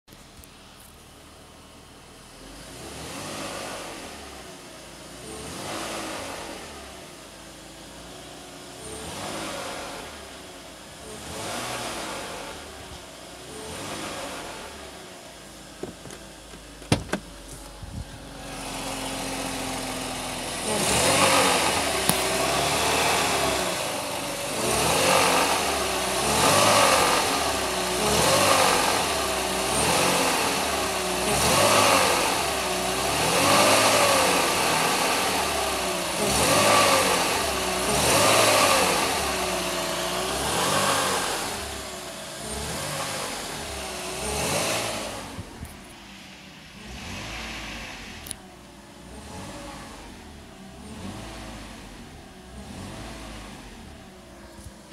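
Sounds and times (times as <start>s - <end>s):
car engine revving: 2.2s - 54.9s
abnormal engine noise: 2.3s - 54.9s.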